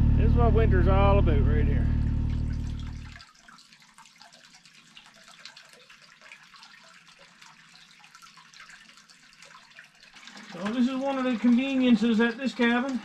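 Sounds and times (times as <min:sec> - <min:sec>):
water trickling into plastic bottle: 0:02.3 - 0:13.0.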